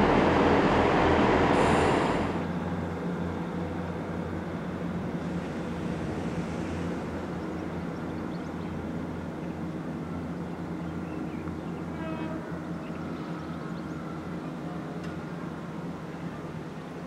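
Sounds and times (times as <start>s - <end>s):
diesel train engine droning: 0.0s - 17.0s.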